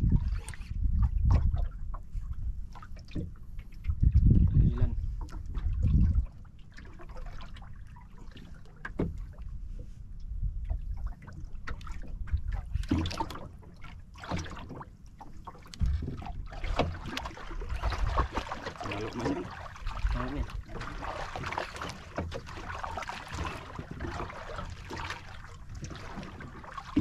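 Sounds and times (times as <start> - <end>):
water lapping against boat hull: 0.0 - 27.0.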